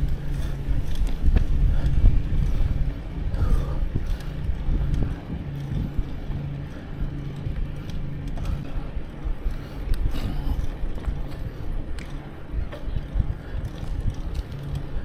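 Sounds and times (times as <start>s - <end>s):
rattles and clicks: 0.0s - 15.0s
steady low hum: 0.0s - 15.0s
tyres rumbling: 0.0s - 15.0s
wind on microphone: 0.0s - 15.0s.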